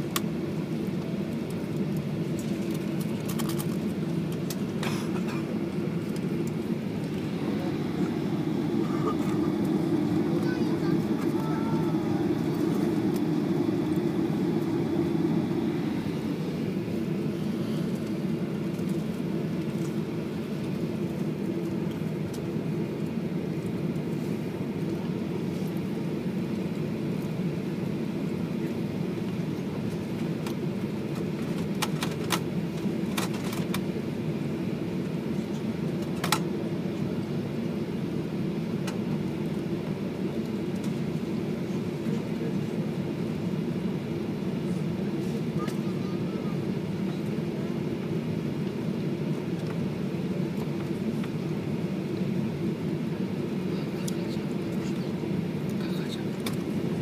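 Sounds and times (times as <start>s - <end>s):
jet engine cabin drone: 0.0s - 57.0s.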